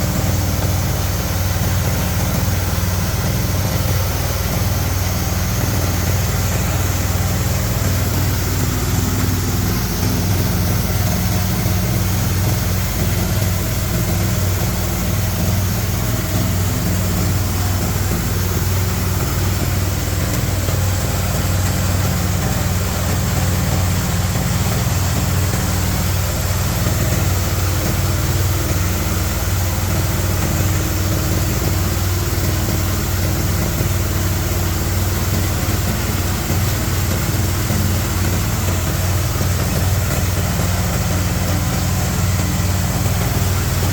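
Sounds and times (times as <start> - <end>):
hammer mill grinding: 0.0 - 43.9.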